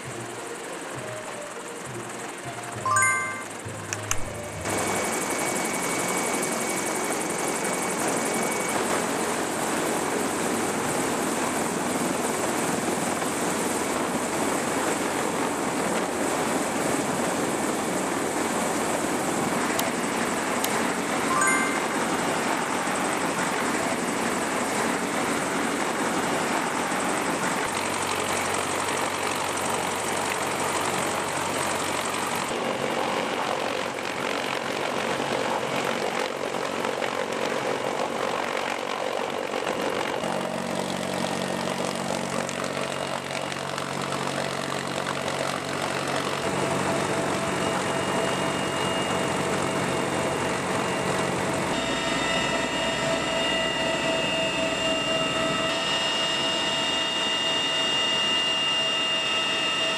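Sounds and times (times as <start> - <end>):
helicopter turbine and rotor noise: 0.0 - 59.9.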